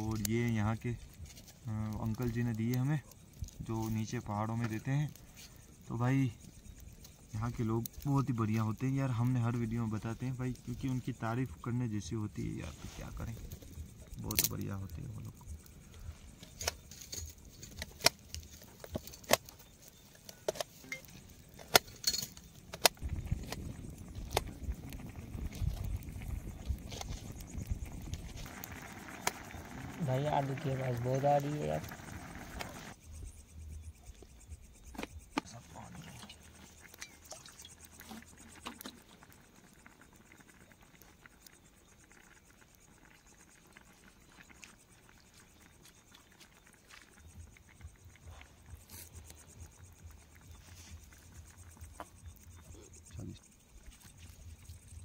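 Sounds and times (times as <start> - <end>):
pot boiling rumble: 0.0 - 55.0
wood fire crackling and popping: 0.0 - 55.0.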